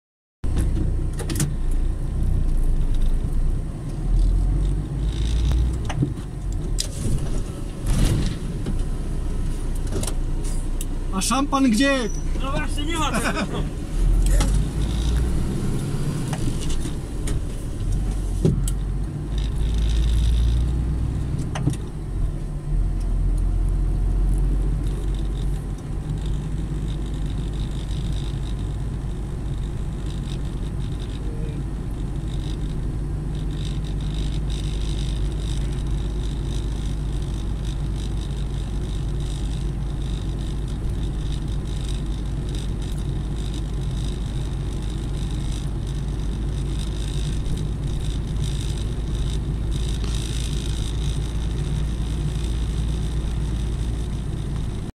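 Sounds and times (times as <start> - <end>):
engine and road noise rumble: 0.4 - 54.9.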